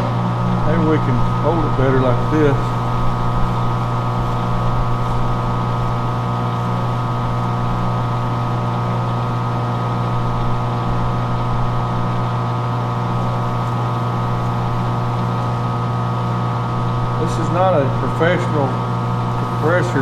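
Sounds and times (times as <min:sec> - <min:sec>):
metal lathe humming: 0:00.0 - 0:20.0.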